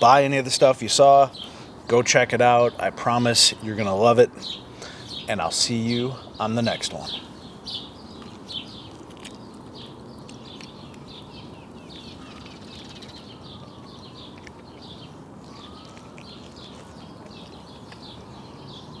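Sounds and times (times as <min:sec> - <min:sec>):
songbird chirping: 0:00.0 - 0:19.0
low background hum: 0:02.8 - 0:19.0.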